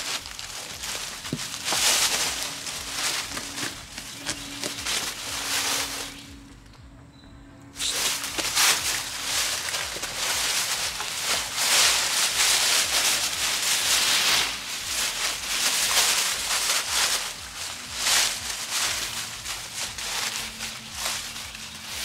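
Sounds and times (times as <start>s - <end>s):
dry leaves rustling and crunching: 0.0s - 6.8s, 7.8s - 22.0s.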